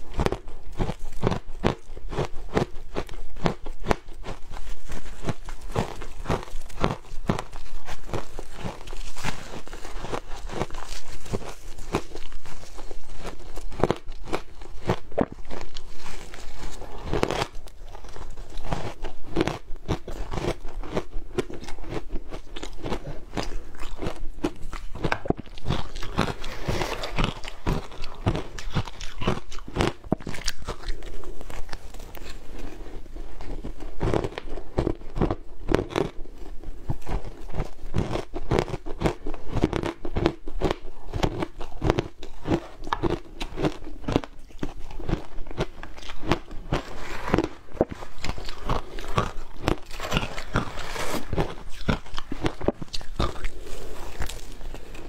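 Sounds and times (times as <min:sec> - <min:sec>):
crunching shaved ice: 0:00.0 - 0:32.8, 0:37.0 - 0:55.0.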